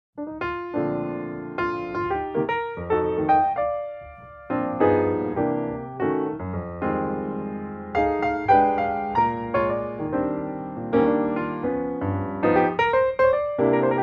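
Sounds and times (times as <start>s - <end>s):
piano music: 0.2s - 14.0s.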